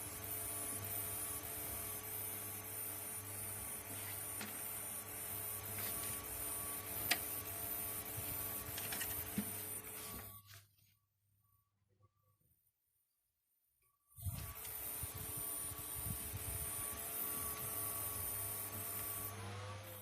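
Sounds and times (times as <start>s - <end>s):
cooling fans whirring: 0.0s - 10.4s, 14.2s - 20.0s.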